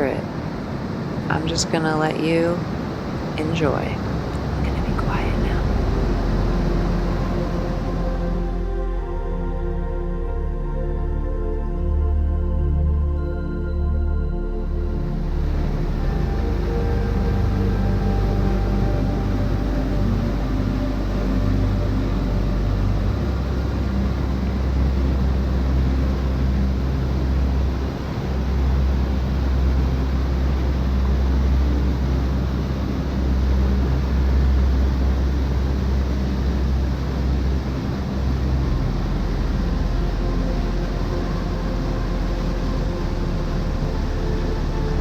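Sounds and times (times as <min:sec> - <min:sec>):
waterfall and river rushing: 0:00.0 - 0:11.8, 0:13.1 - 0:45.0
deep rumble: 0:00.0 - 0:45.0.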